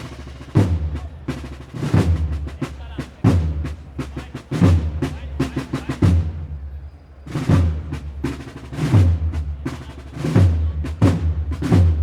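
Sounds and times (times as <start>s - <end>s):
snare drum rolls: 0.0s - 6.4s, 7.4s - 12.0s.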